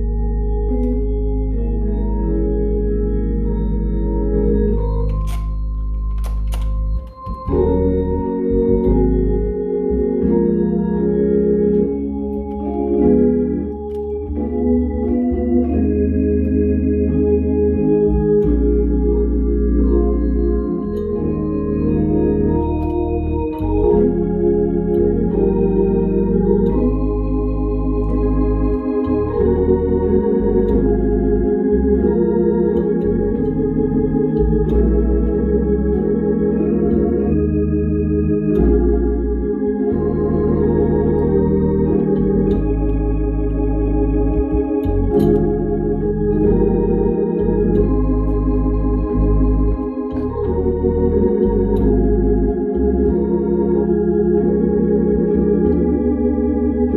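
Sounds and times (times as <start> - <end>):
organ playing hymn chords: 0.0 - 56.9.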